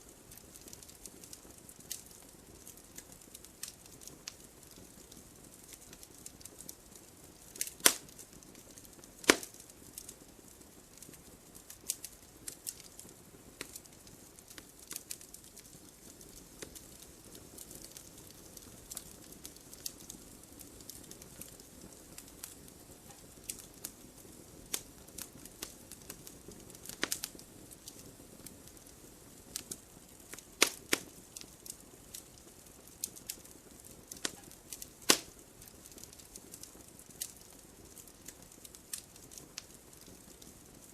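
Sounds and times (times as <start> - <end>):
wood fire crackling: 0.0 - 40.9
sharp pops of burning wood: 0.1 - 40.9.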